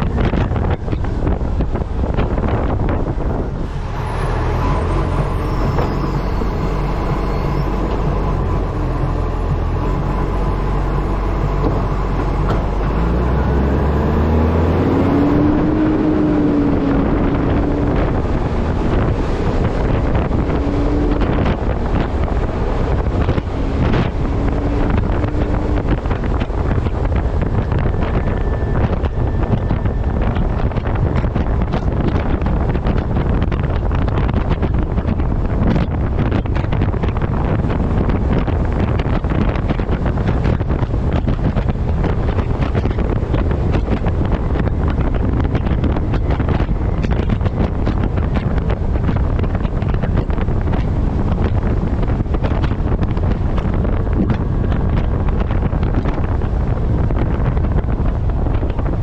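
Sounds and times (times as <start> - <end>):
low wavering drone: 0.0 - 59.0
road and engine noise: 0.0 - 59.0
wind buffeting microphone: 0.0 - 59.0.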